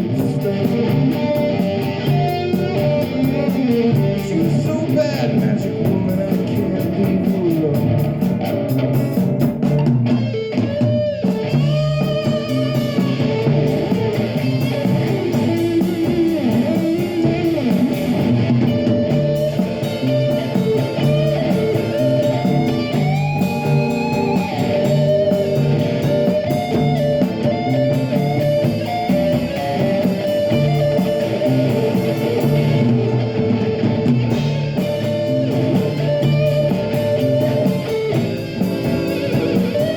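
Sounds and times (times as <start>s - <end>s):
electric guitar with pitch bends: 0.0s - 39.9s
live rock band playing: 0.0s - 39.9s.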